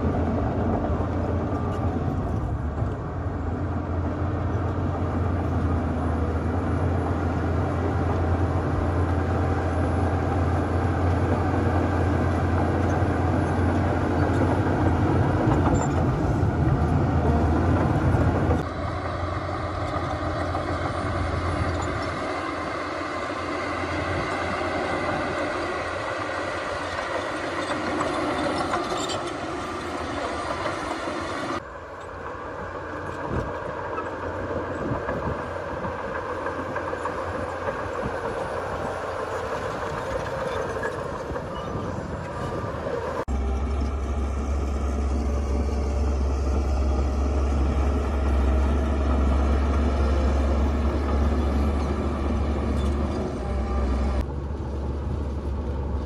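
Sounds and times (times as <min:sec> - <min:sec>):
heavy machinery diesel engines: 0:00.0 - 0:56.0
mechanical clatter and whine: 0:00.0 - 0:56.0.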